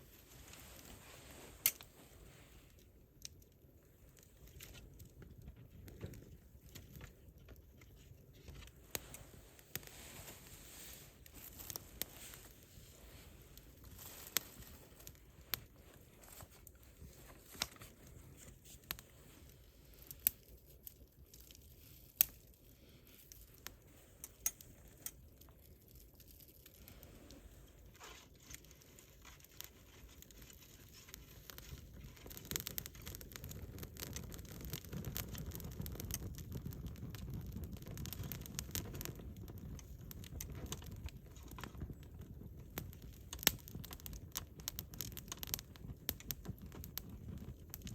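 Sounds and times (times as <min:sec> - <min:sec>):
campfire crackling and popping: 0:00.0 - 0:47.9
low rumble of burning fire: 0:00.0 - 0:47.9.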